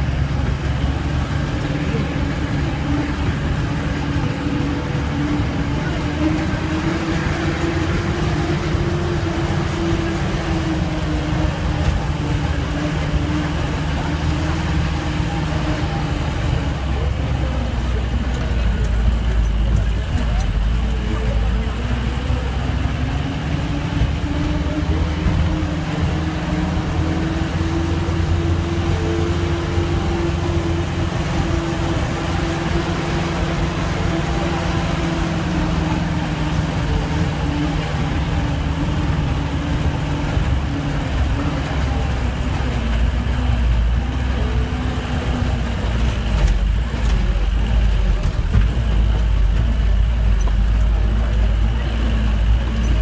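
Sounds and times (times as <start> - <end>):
bus engine rumbling: 0.0 - 53.0.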